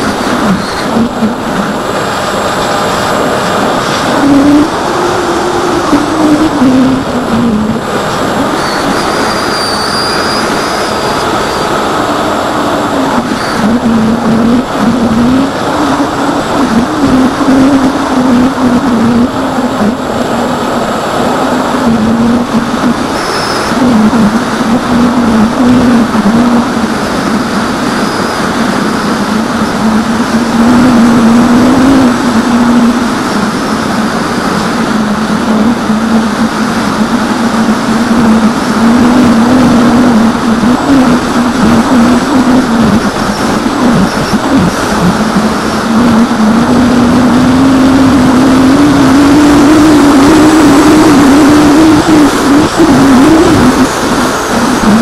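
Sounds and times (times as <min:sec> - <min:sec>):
electric motor and propeller hum: 0:00.0 - 0:55.0
wind rush: 0:00.0 - 0:55.0.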